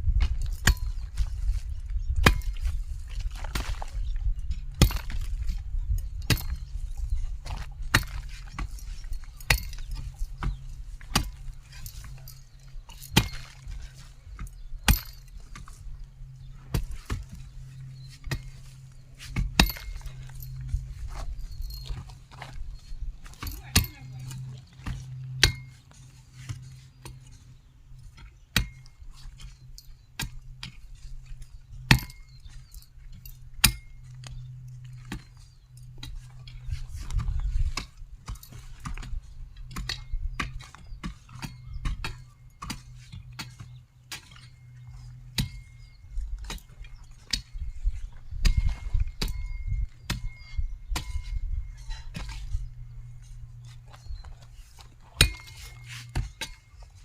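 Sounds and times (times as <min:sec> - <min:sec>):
hoe chopping into dry soil: 0:00.1 - 0:22.6, 0:28.2 - 0:31.1, 0:35.0 - 0:57.0.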